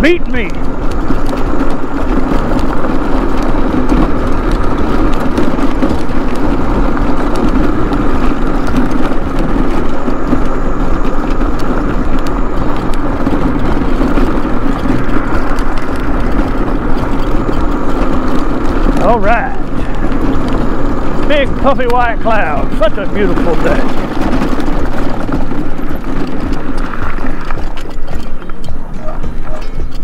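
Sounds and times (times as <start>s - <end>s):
mobility scooter rumbling: 0.0s - 30.0s
scooter rattling over bumps: 0.0s - 30.0s.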